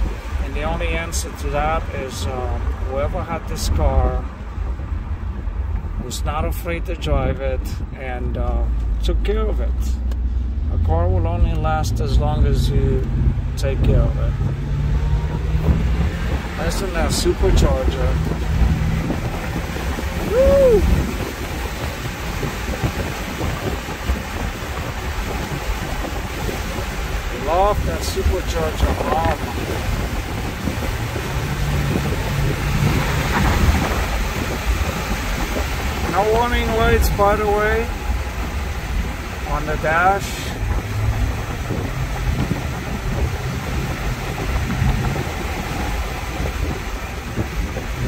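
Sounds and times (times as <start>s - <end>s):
wind buffeting microphone: 0.0s - 8.9s, 10.0s - 48.0s
car engine pulling hard: 0.0s - 48.0s
road noise: 0.0s - 48.0s.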